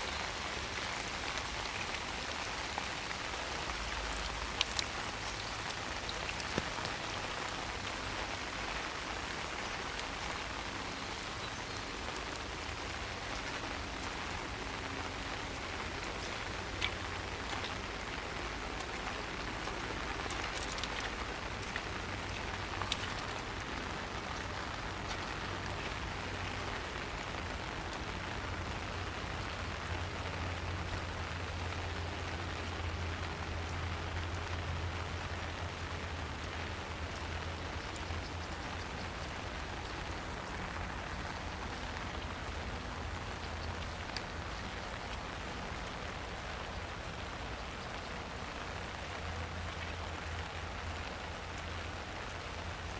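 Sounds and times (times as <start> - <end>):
rain falling on trees: 0.0 - 52.9.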